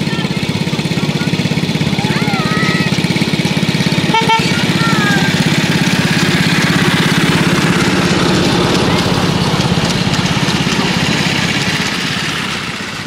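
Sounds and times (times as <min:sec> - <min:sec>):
small locomotive engine running: 0:00.0 - 0:13.0.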